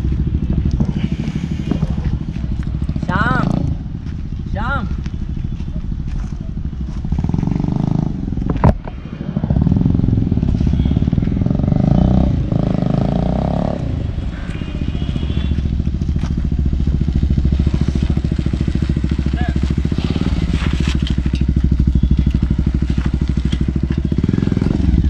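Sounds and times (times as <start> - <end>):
sharp exhaust crack: 0.0 - 4.0, 7.2 - 25.0
motorcycle engine revving: 0.0 - 25.0.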